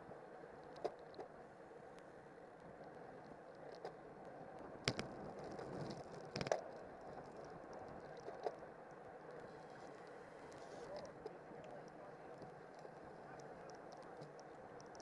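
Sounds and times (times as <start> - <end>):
wind and tyre noise: 0.0 - 15.0.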